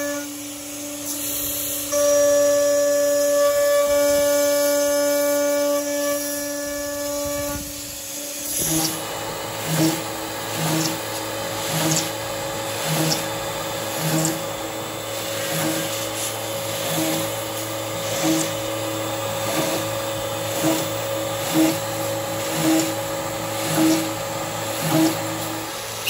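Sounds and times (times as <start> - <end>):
cnc router milling metal: 0.0 - 26.0.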